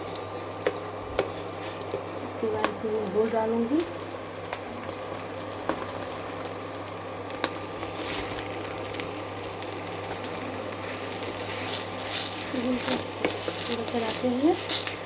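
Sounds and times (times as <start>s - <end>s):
pulp sizzling in a pan: 0.0s - 15.0s.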